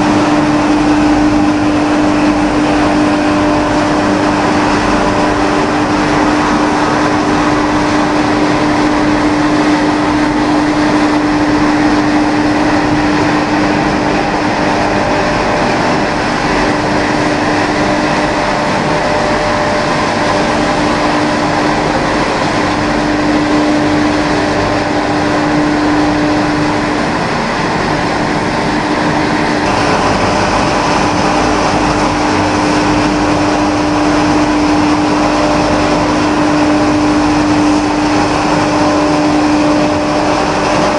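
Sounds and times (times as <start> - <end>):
production line machinery humming: 0.0 - 40.9.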